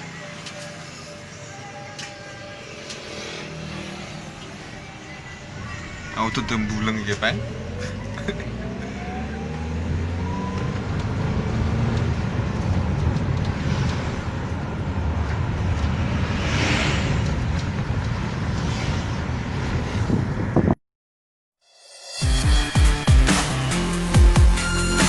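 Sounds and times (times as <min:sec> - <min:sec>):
rising engine whine: 0:00.0 - 0:20.6
vehicle engine and road rumble: 0:00.0 - 0:20.8.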